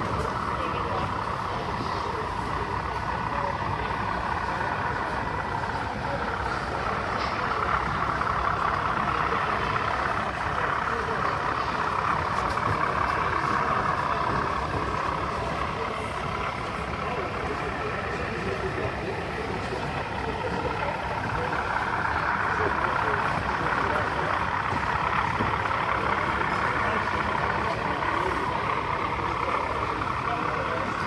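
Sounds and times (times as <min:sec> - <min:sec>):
crowd chatter: 0:00.0 - 0:31.0.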